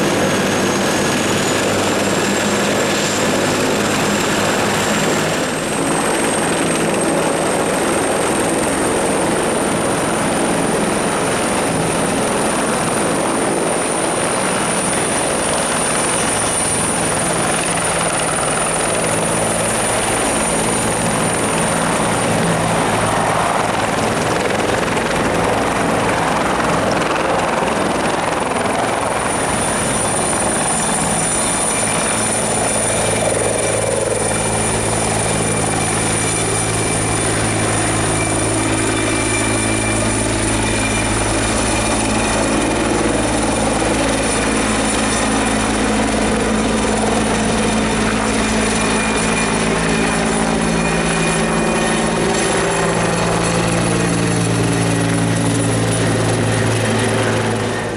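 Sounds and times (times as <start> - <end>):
helicopter rotor noise: 0.0 - 57.9
turbine engine whine: 0.0 - 57.9.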